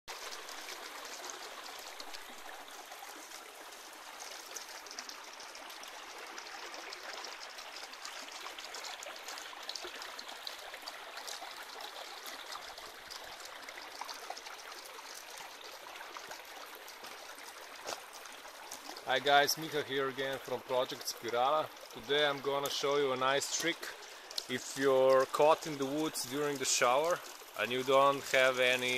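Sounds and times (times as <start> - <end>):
stream trickling over stones: 0.1 - 28.9.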